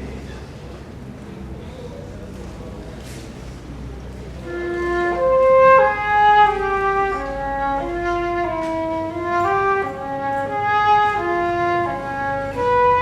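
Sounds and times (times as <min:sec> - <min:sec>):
small ensemble playing baroque music: 0:02.4 - 0:13.0.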